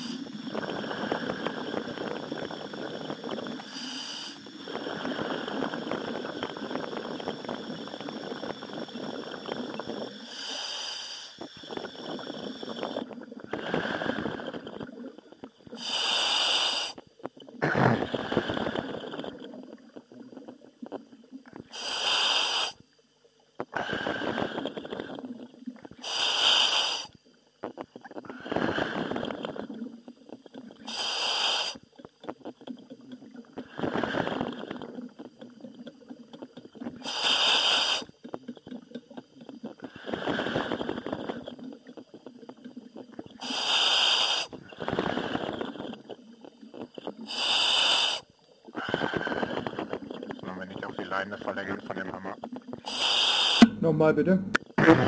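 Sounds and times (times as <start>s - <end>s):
bubbling rush on exhale: 0.0s - 23.0s, 23.6s - 54.1s
gas hissing on inhale: 0.0s - 23.0s, 23.6s - 32.4s, 33.4s - 38.4s, 39.4s - 51.7s, 52.7s - 54.0s.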